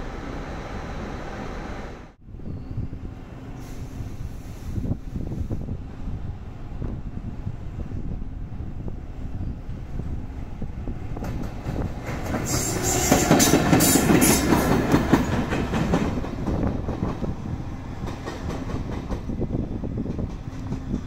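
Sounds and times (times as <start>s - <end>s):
electric locomotive passing: 0.0s - 21.0s.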